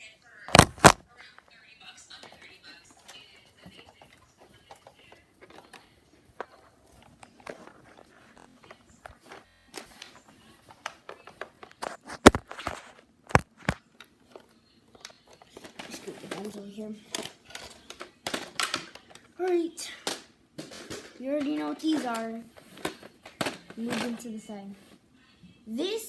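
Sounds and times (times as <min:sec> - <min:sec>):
objects being handled: 0:00.5 - 0:01.0, 0:02.1 - 0:25.0.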